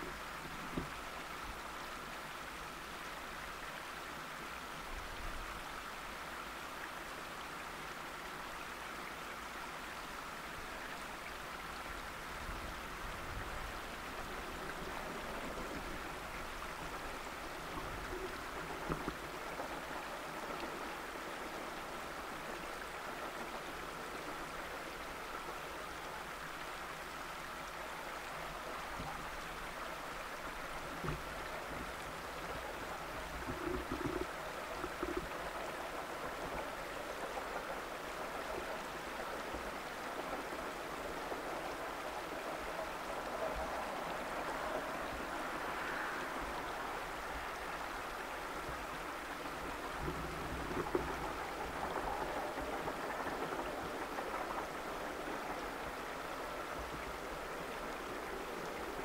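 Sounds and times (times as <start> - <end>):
rushing outdoor background noise: 0.0 - 59.0.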